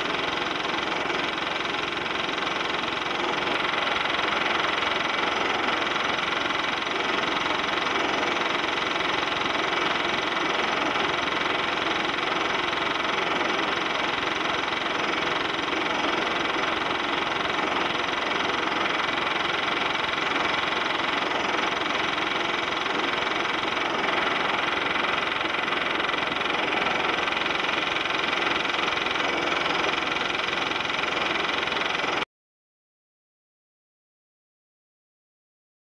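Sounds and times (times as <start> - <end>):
film projector whirring: 0.0 - 32.2.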